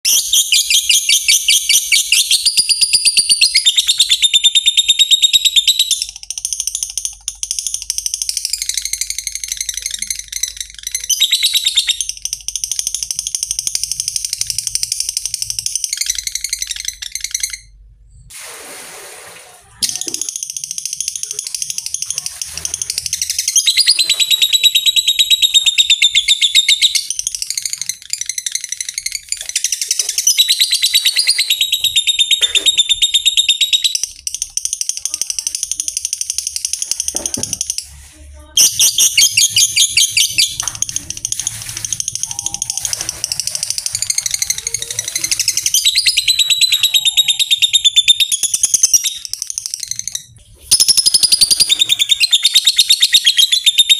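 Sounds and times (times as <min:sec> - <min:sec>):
lovebird chattering trill: 0:00.0 - 0:17.8, 0:19.8 - 0:53.9.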